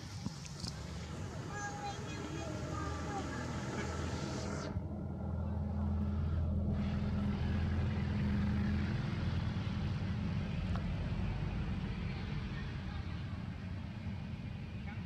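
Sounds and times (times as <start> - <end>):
motor engine humming: 0.0 - 15.0.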